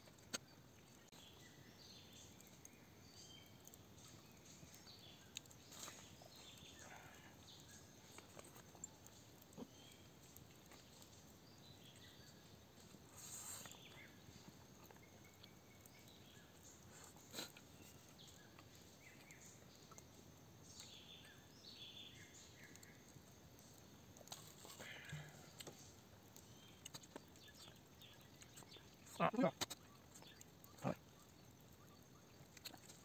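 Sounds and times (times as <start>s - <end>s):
night forest ambience: 0.0s - 33.0s.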